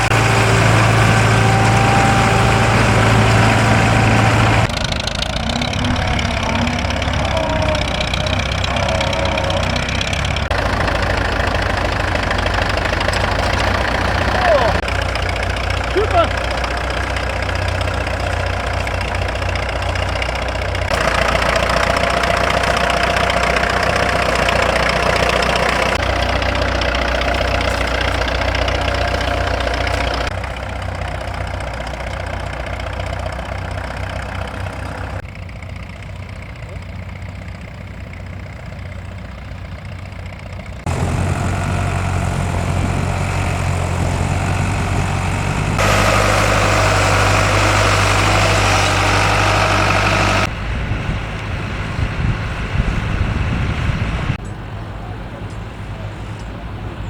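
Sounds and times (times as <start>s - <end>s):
tractor engines running: 0.0s - 57.0s.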